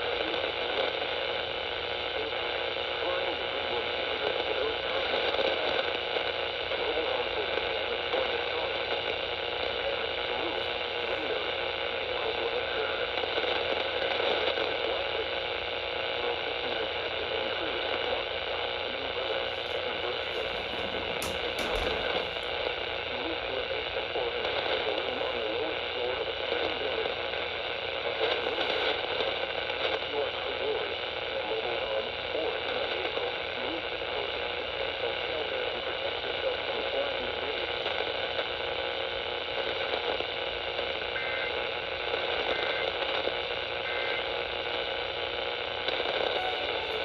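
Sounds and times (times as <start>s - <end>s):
radio static hiss: 0.1s - 47.0s.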